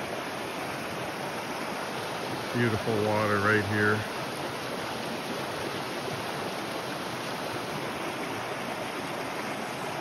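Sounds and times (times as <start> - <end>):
creek rushing over rocks: 0.0 - 10.0.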